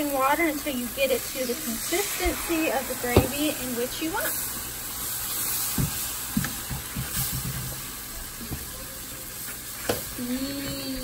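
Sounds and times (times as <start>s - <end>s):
simmering liquid hissing: 0.0s - 11.0s.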